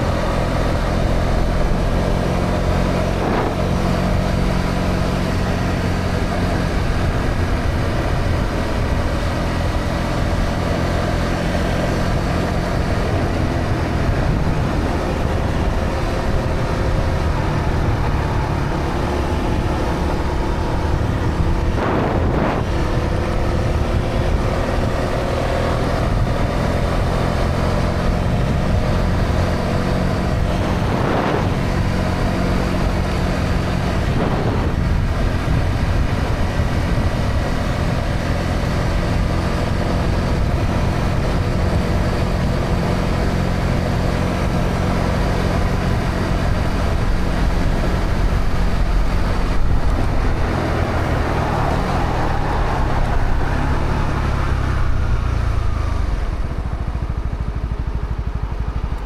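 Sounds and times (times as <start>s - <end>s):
wind rushing on microphone: 0.0s - 58.0s
motorcycle engine running: 0.0s - 59.0s.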